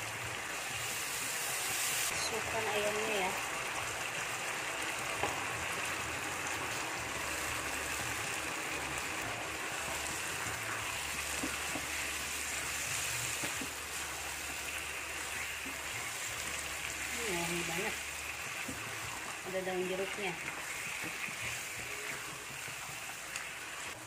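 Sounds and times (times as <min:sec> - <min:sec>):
chicken sizzling in a wok: 0:00.0 - 0:24.0.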